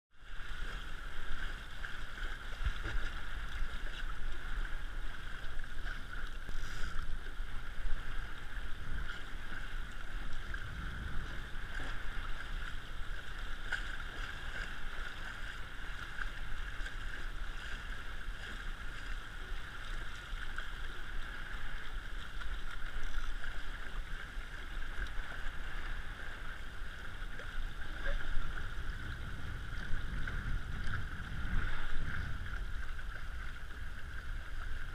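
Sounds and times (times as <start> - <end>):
water rushing past hull: 0.1 - 34.9
wind rumbling on microphone: 0.1 - 34.9.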